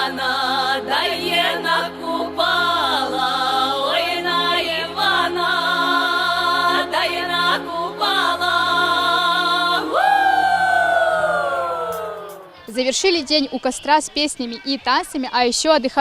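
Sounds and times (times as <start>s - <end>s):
song with singing voices: 0.0s - 12.8s.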